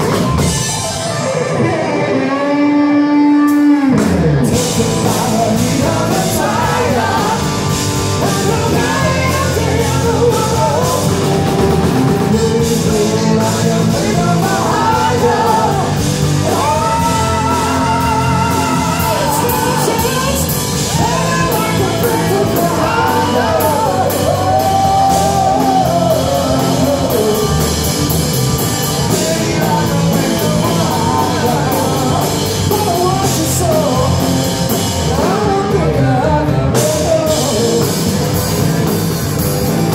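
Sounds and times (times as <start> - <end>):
drum kit: 0.0 - 2.1, 3.3 - 39.9
electric bass: 0.0 - 39.9
electric guitar: 0.0 - 39.9
person singing: 1.1 - 38.6.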